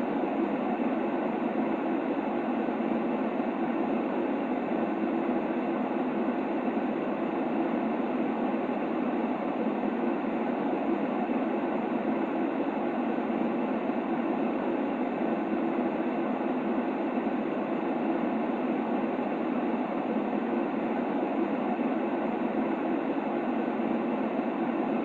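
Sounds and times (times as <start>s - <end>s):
muffled white noise hiss: 0.0s - 25.0s.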